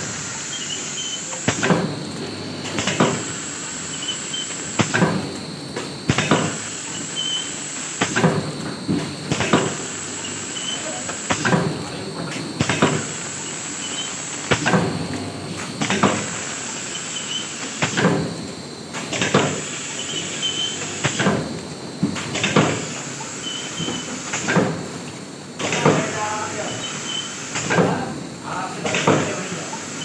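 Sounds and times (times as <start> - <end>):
packing machine running: 0.0 - 30.0.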